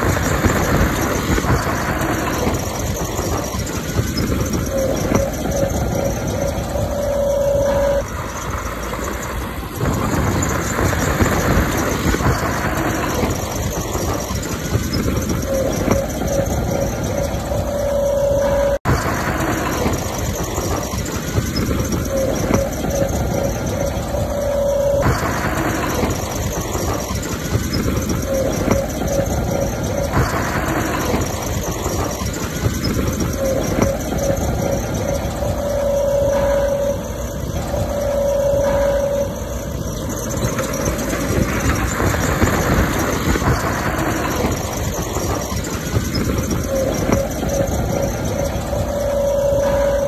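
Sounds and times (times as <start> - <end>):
diesel engine running: 0.0 - 50.0
rushes of noise: 0.0 - 50.0
squealing tone: 0.0 - 50.0.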